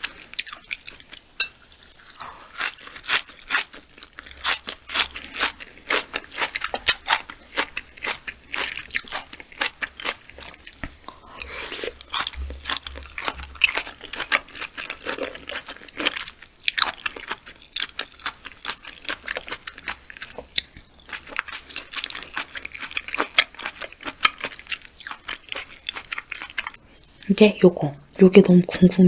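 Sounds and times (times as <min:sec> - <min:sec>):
chewing raw fish: 0:00.0 - 0:26.8.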